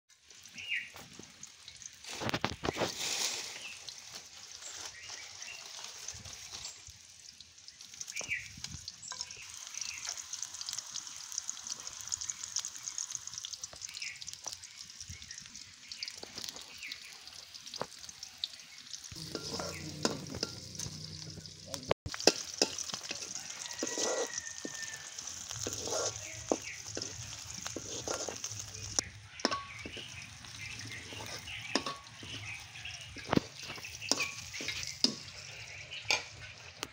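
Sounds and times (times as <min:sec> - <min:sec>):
onions sizzling in oil: 0:00.1 - 0:36.9.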